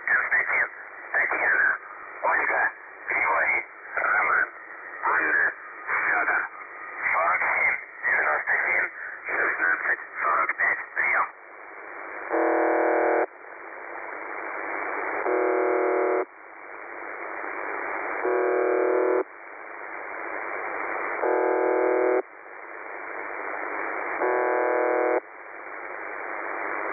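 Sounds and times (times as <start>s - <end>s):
radio buzzes: 0.0s - 11.3s, 12.2s - 13.3s, 14.0s - 16.3s, 16.9s - 26.9s
receiver static: 0.0s - 26.9s.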